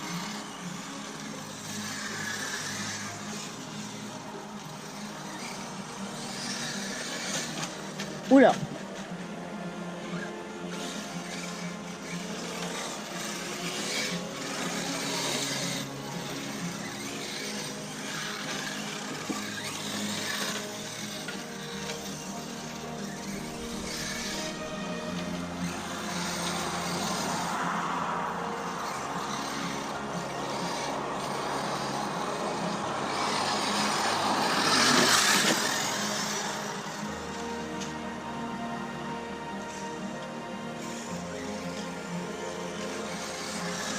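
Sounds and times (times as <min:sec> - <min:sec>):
rc truck drivetrain whir: 0:00.0 - 0:43.9
tyres scraping on dirt: 0:00.0 - 0:43.9.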